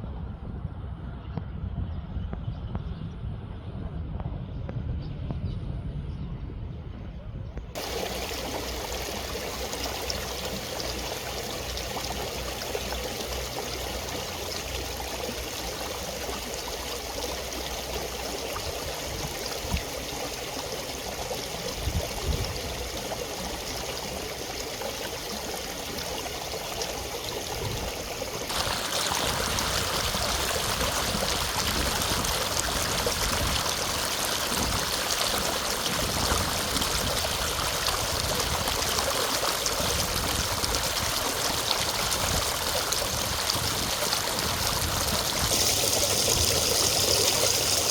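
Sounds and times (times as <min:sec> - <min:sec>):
water flowing and splashing: 0:07.8 - 0:47.9.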